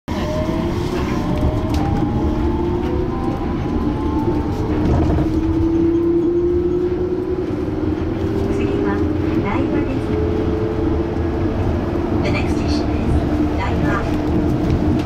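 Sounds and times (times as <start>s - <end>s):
train rumble: 0.1s - 15.0s.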